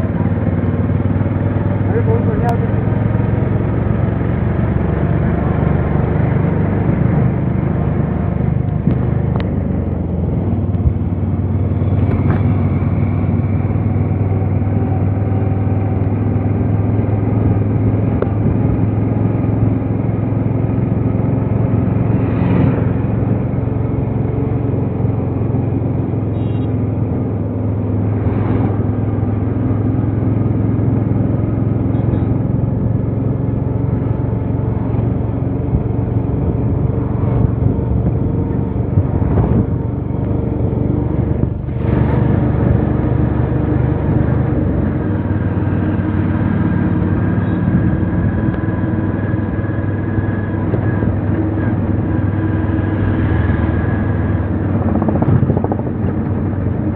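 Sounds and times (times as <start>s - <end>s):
vehicle engine hum and road noise: 0.0s - 56.9s
vehicles passing: 0.0s - 56.9s.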